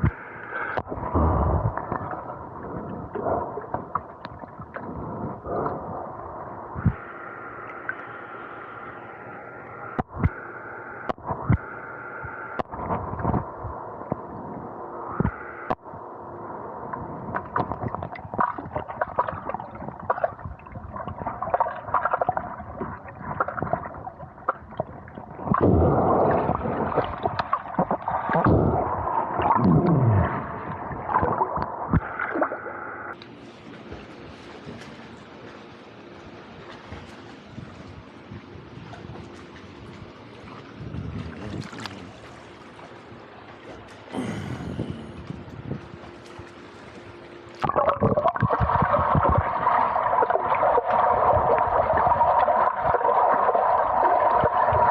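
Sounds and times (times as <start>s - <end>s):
water gurgling and sloshing: 0.0s - 54.9s.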